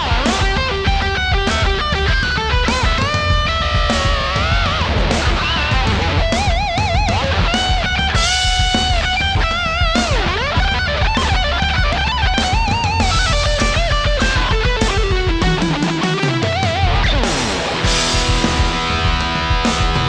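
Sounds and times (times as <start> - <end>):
distorted electric guitar solo: 0.0 - 20.0
fast low rhythm guitar: 0.0 - 20.0.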